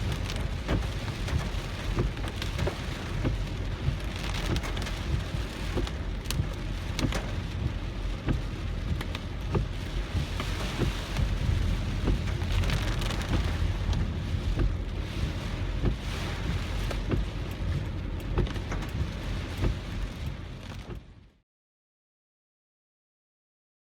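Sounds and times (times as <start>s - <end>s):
heavy rain striking a car: 0.0s - 21.3s
car and road rumble: 0.0s - 21.4s.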